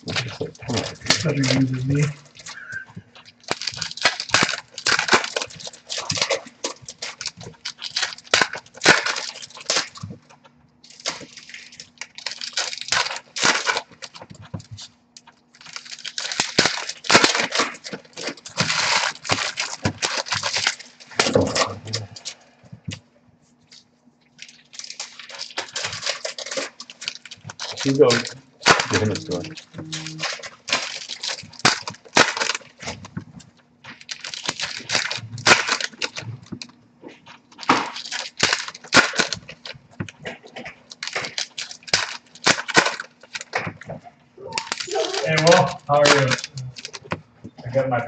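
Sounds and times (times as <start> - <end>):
faint steady hum: 0.0 - 48.0
wrappers tearing and crinkling: 0.0 - 48.0.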